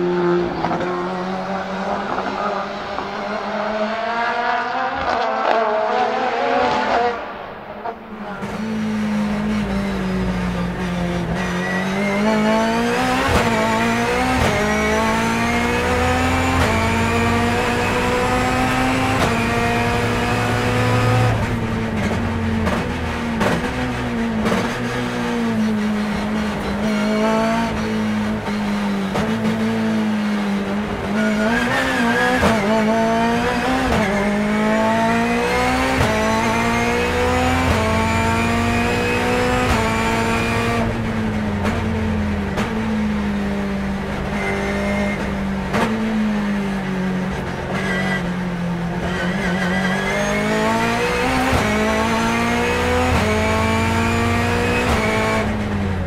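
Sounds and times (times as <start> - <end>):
race car engine accelerating: 0.0 - 56.0.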